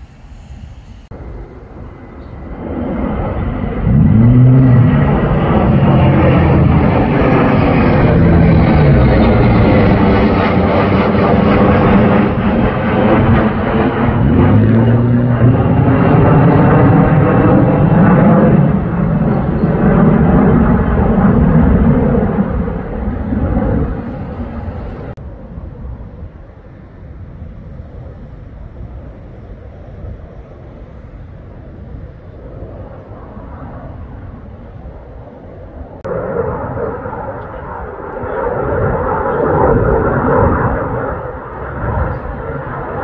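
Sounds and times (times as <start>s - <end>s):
fighter jets roaring overhead: 0.0s - 43.0s.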